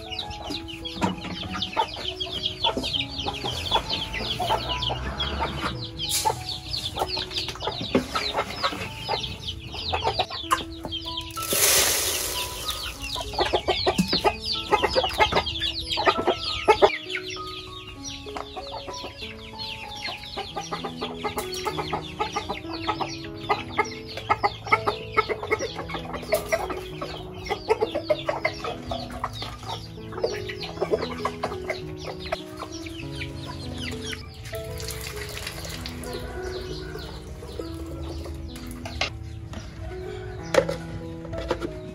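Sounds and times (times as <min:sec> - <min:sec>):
chickens clucking: 0:00.0 - 0:41.9
chicks peeping: 0:00.0 - 0:41.9
soft background music: 0:00.0 - 0:41.9.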